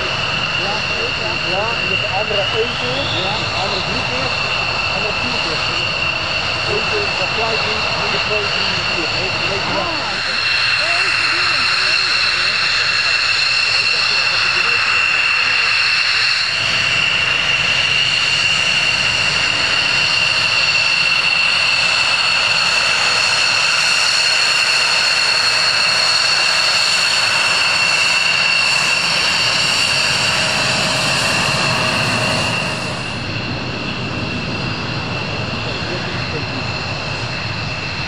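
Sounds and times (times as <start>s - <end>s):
jet engine turbine whine: 0.0s - 38.0s
jet noise rushing: 0.0s - 38.0s.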